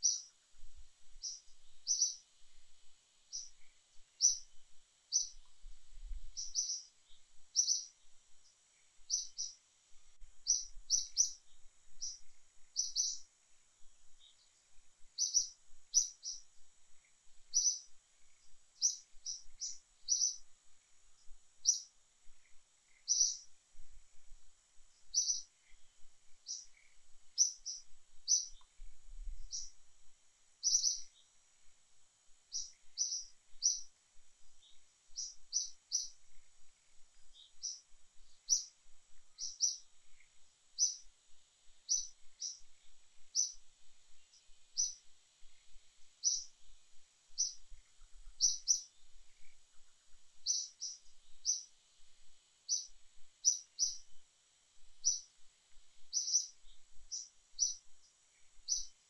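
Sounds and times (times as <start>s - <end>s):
faint high whine: 0.0s - 59.0s
small bird chirping: 0.0s - 59.0s.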